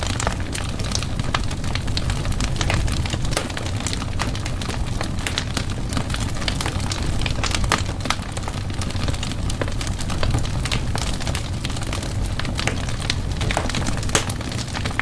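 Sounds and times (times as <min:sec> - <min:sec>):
burning wood crackling and popping: 0:00.0 - 0:15.0
fire flames rumbling: 0:00.0 - 0:15.0.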